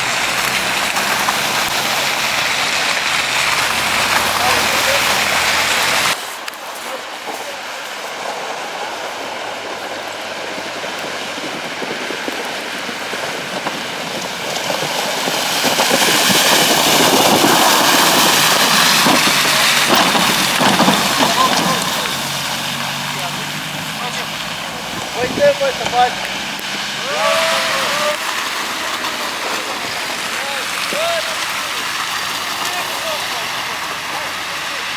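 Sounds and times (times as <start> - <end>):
heavy vehicle rattling clatter: 0.0 - 6.2, 8.2 - 34.9.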